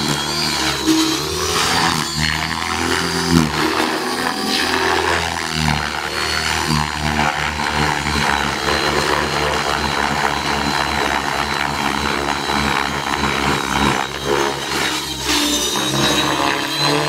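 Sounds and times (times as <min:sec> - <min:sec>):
model helicopter high whine: 0:00.0 - 0:17.0
rotor blades chopping: 0:00.0 - 0:17.0.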